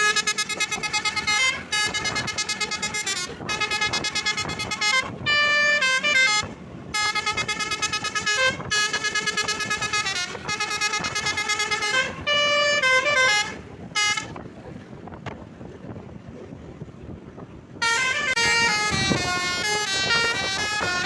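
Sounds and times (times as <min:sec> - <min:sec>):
bus horn playing multi-note tune: 0:00.0 - 0:14.5, 0:17.8 - 0:21.0.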